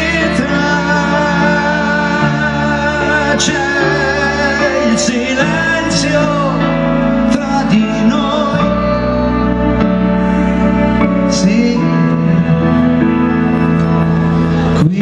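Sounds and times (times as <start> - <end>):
bass line: 0.0 - 15.0
keyboard chords: 0.0 - 15.0
man singing into microphone: 0.0 - 15.0.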